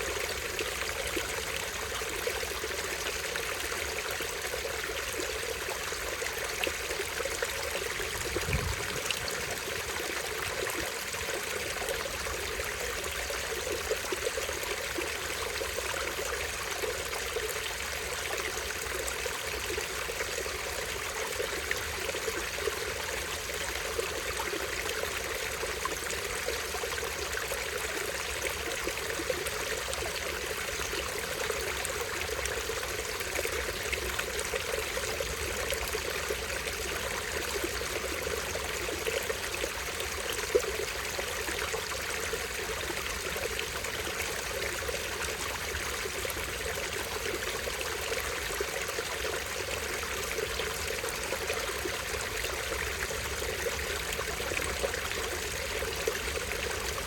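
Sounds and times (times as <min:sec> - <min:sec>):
stream over small waterfall: 0:00.0 - 0:57.0.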